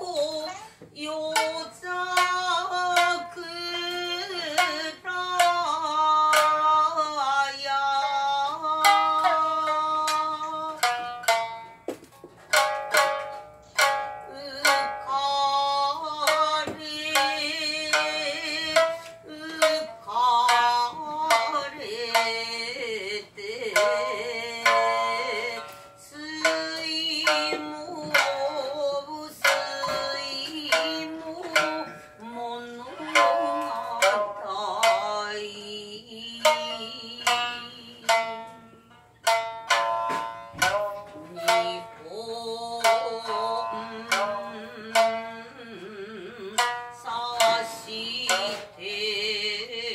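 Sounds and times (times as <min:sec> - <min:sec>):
woman singing: 0:00.0 - 0:11.5, 0:13.9 - 0:39.0, 0:40.1 - 0:49.9
shamisen plucking: 0:00.0 - 0:49.9.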